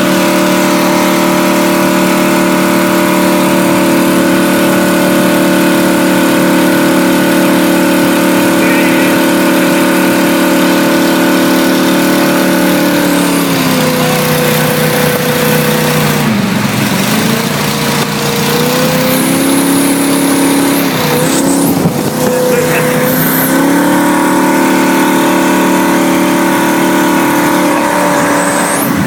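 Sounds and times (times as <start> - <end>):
jet boat engine running: 0.0 - 29.0.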